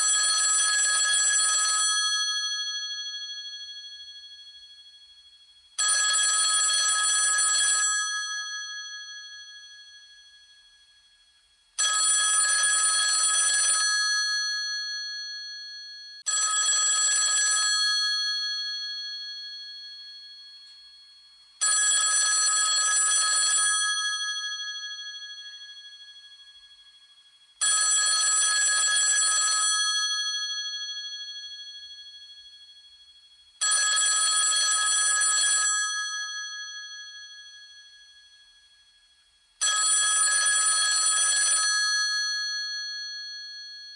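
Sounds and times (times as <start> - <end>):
old telephone bell ringing: 0.0 - 4.3, 5.8 - 10.1, 11.8 - 26.7, 27.6 - 32.8, 33.6 - 38.4, 39.6 - 43.9.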